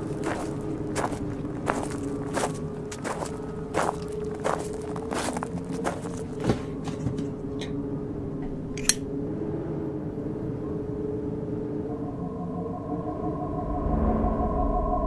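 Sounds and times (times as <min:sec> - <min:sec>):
low electronic drone: 0:00.0 - 0:06.4, 0:07.4 - 0:15.0
higher steady hum: 0:00.0 - 0:15.0.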